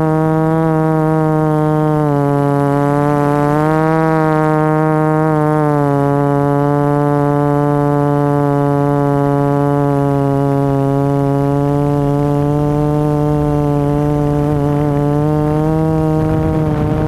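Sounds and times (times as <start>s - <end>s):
model aircraft motor humming: 0.0s - 17.0s.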